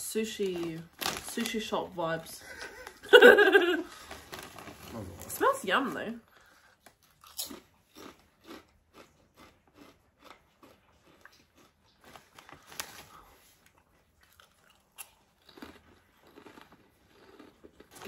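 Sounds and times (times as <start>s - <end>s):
person crunching potato chips: 0.4s - 1.7s, 2.4s - 5.5s, 6.8s - 18.0s.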